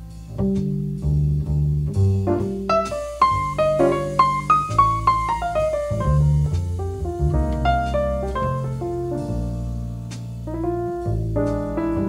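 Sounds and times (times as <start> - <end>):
slow piano chords: 2.2 - 12.0.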